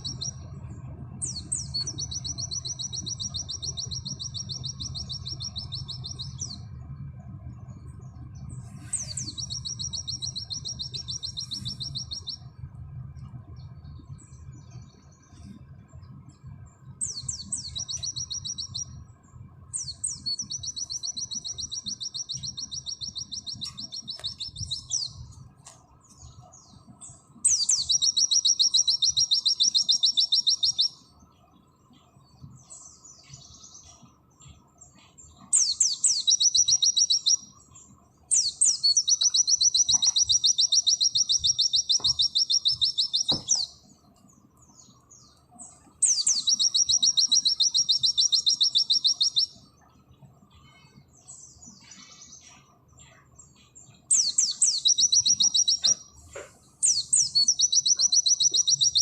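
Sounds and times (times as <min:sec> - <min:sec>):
bird singing high trills: 0:00.0 - 0:25.4, 0:26.0 - 0:59.0
faint low hum: 0:00.0 - 0:59.0.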